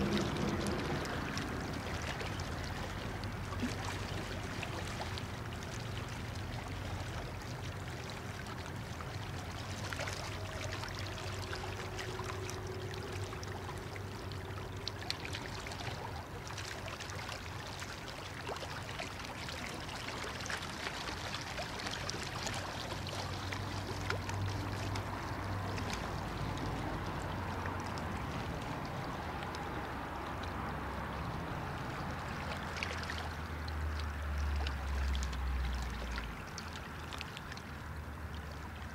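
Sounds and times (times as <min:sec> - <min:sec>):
river water lapping and splashing: 0:00.0 - 0:38.9.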